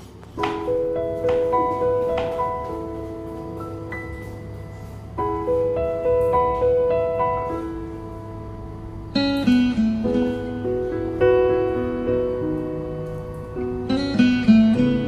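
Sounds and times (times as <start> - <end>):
slow plucked string and keyboard music: 0.4 - 15.0.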